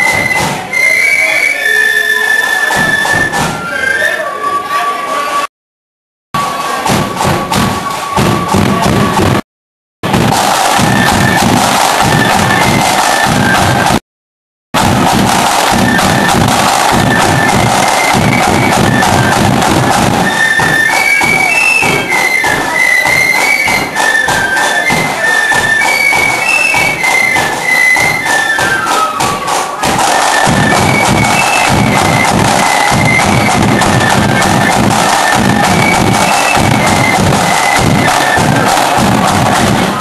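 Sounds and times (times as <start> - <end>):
snare drum rolls: 0.0 - 3.9, 6.4 - 9.4, 10.0 - 14.0, 14.8 - 40.0
flutes playing a quick tune: 0.0 - 5.5, 6.4 - 9.4, 10.3 - 14.0, 15.0 - 40.0
bass drum beats: 6.4 - 9.4, 10.0 - 14.0, 14.8 - 40.0.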